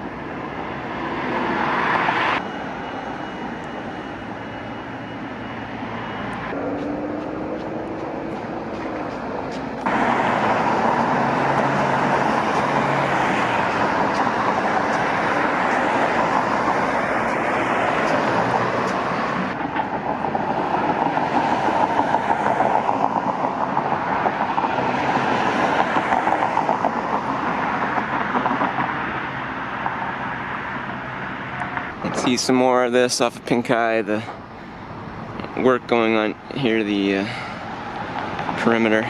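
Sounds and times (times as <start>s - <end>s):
passing vehicle rushing: 0.0s - 33.0s.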